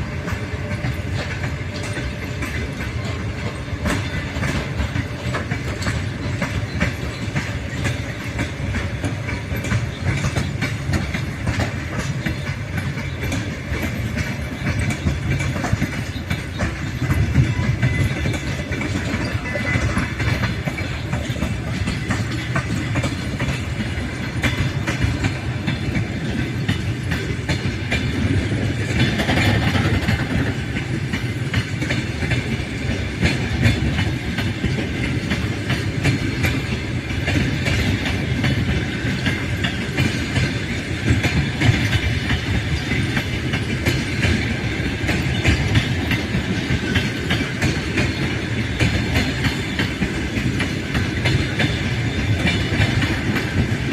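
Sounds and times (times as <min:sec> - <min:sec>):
train wheels clattering on rails: 0:00.0 - 0:53.9.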